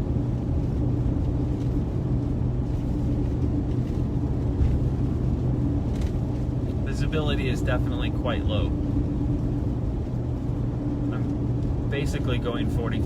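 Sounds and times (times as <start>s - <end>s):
car road and engine drone: 0.0s - 13.0s.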